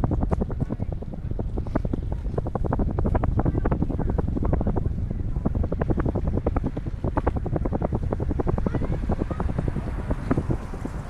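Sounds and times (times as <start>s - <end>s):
fast uneven rattle: 0.0s - 11.0s
wind rumbling on microphone: 0.0s - 11.0s.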